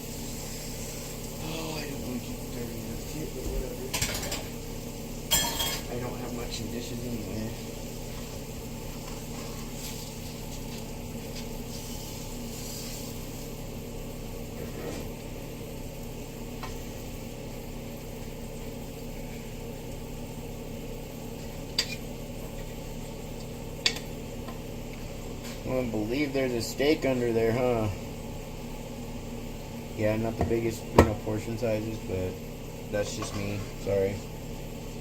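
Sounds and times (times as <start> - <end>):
food sizzling in a frying pan: 0.0 - 35.0.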